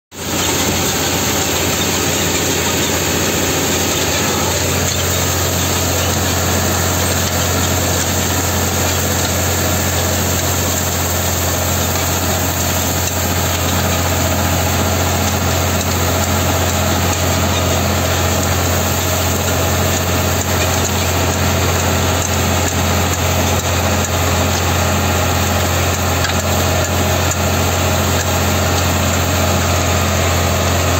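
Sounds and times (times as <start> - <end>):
tractor diesel engine under load: 0.1 - 30.9.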